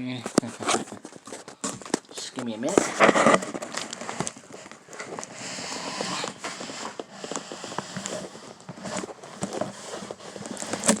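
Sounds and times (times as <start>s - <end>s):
cardboard packaging rustling: 0.0s - 11.0s.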